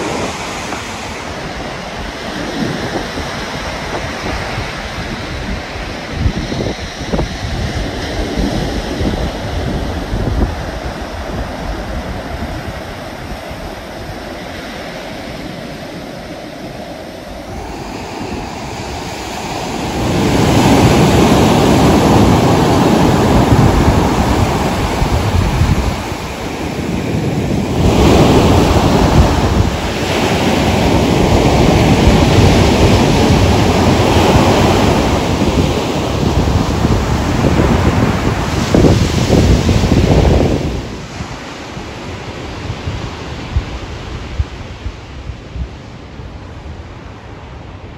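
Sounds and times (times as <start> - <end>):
surf breaking on a beach: 0.0 - 47.9
wind buffeting the microphone: 0.0 - 47.9.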